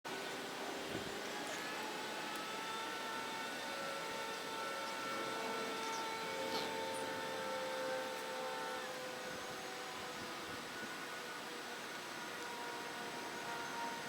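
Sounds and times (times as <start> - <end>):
distant jet engines whining: 0.1 - 14.0.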